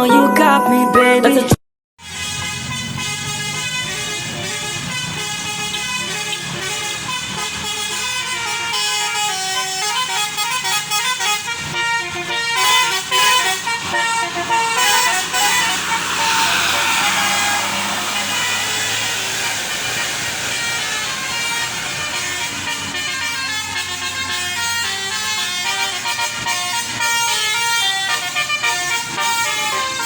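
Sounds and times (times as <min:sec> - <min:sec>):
bus engine rumble: 0:02.0 - 0:30.0
musical bus horn playing a tune: 0:02.0 - 0:30.0.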